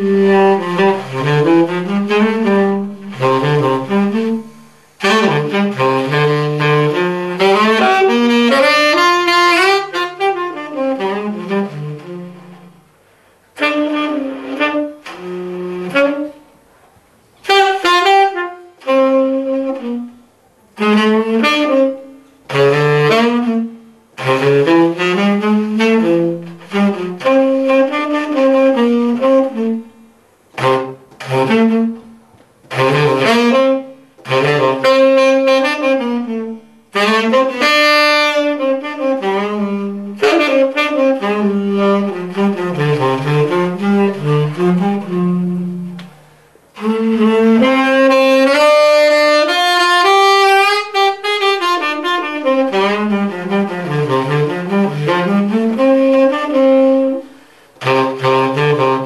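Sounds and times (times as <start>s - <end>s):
saxophone melody: 0.0s - 59.0s.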